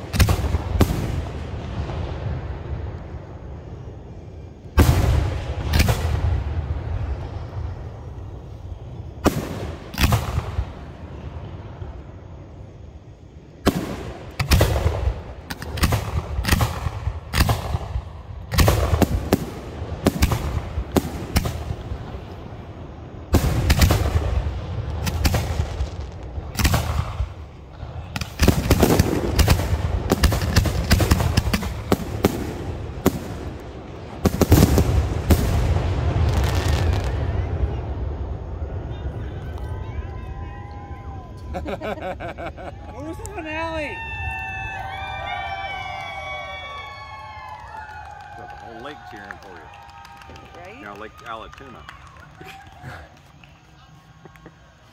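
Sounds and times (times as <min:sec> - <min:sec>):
fireworks booming and crackling: 0:00.0 - 0:54.9.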